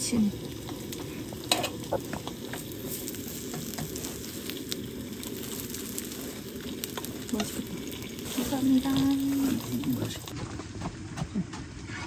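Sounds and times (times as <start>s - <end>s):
food sizzling in a frying pan: 0.0s - 10.4s
small pops and crackles: 0.6s - 10.4s.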